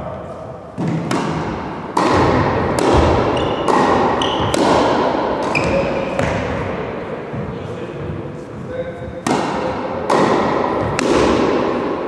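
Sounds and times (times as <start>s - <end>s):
tennis balls struck by rackets: 0.7s - 8.2s, 9.1s - 12.0s
balls bouncing on wooden floor: 0.8s - 8.2s, 9.1s - 11.6s.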